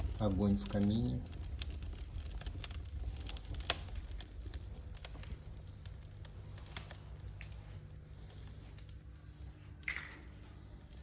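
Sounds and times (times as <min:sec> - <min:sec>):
fire popping: 0:00.0 - 0:11.0
low steady rumble: 0:00.0 - 0:11.0
wood fire crackling: 0:00.0 - 0:11.0.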